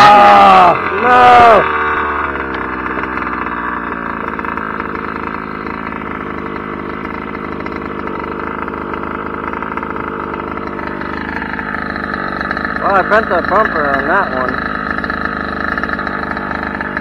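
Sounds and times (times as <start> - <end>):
small two-stroke engine idling: 0.0 - 17.0.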